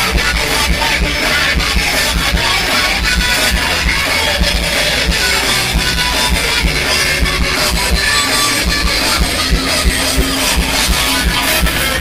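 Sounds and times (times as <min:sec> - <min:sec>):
drum kit beat: 0:00.0 - 0:12.0
electric guitars: 0:00.0 - 0:12.0.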